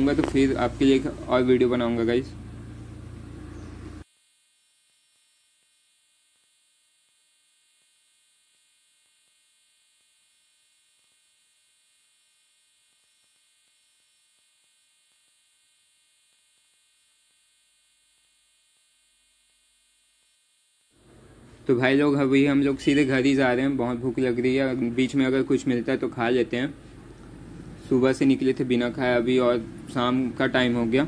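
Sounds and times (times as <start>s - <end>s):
faint electrical hum: 0.0s - 31.0s.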